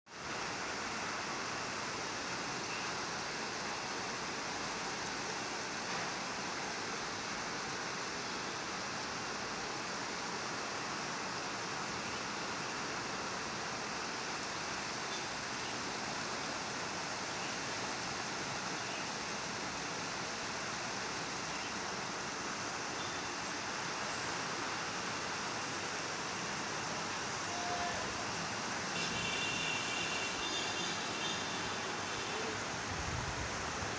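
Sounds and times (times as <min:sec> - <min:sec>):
heavy rain hissing: 0:00.1 - 0:33.9.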